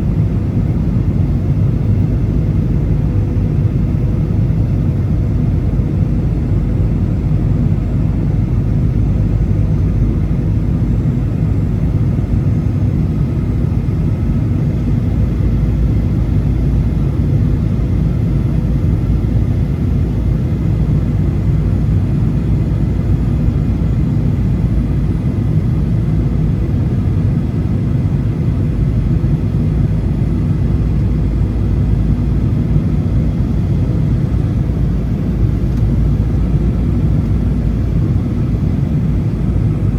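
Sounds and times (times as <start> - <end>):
aircraft cabin drone: 0.0 - 39.9.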